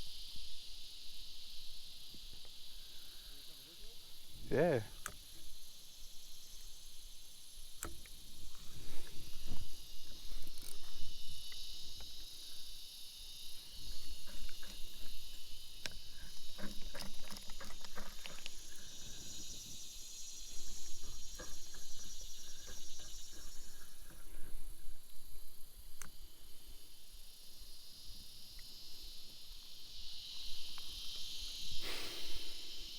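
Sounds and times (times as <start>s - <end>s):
insects buzzing: 0.0s - 32.9s.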